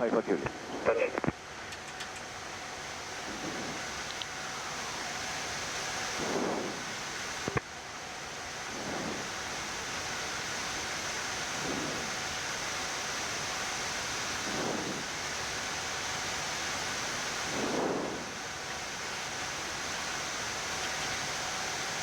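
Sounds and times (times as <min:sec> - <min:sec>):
air conditioning and fans hissing: 0:00.0 - 0:22.0.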